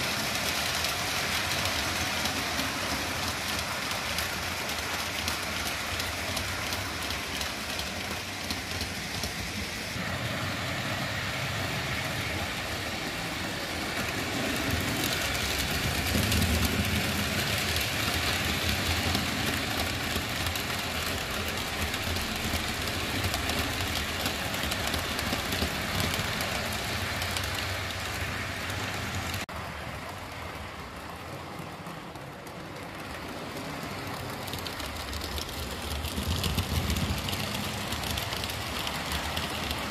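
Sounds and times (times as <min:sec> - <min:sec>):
model train motors whirring: 0:00.0 - 0:39.9
wheels on rails: 0:00.0 - 0:39.9.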